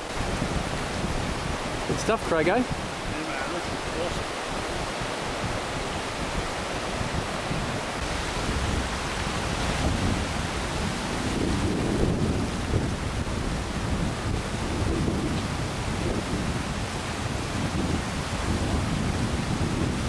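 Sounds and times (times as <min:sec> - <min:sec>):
river water rushing over stones: 0:00.0 - 0:20.0
wind buffeting microphone: 0:00.0 - 0:20.0.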